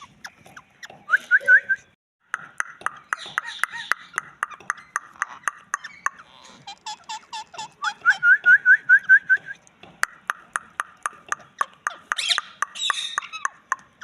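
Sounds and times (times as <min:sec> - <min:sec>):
parakeet calling: 0:00.0 - 0:01.7, 0:02.6 - 0:14.0.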